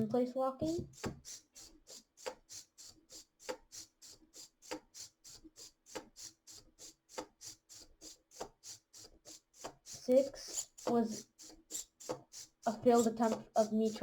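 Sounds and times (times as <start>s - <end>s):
servo ticks and whirs: 0.0s - 14.0s.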